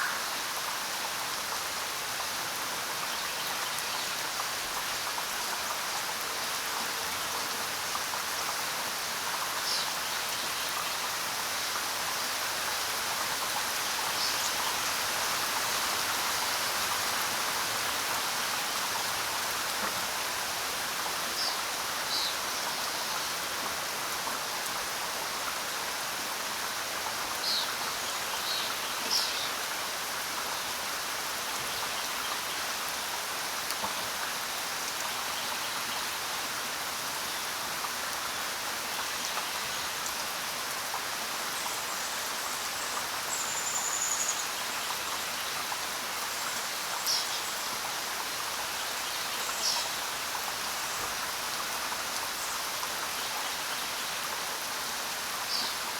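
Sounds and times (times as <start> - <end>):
rain pattering on ground: 0.1 - 55.9.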